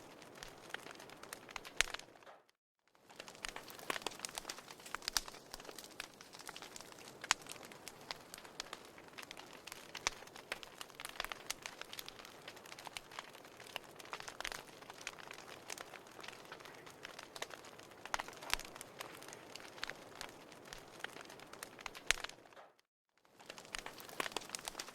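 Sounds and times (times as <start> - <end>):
fire pops and snaps: 0.0 - 24.9.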